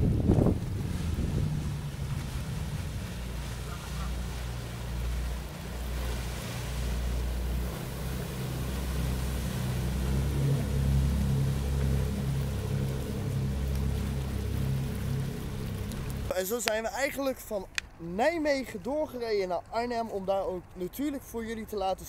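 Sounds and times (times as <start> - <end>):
wind buffeting microphone: 0.0 - 19.8
boat diesel engines rumbling: 0.0 - 22.0
boat wake churning: 0.0 - 22.0.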